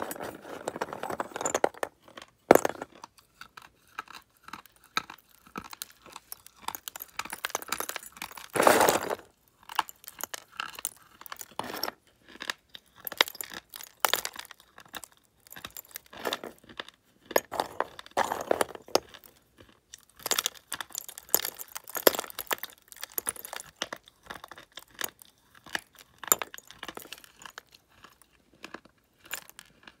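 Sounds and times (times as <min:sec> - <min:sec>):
crisp gritty chewing crunch: 0:02.0 - 0:30.0.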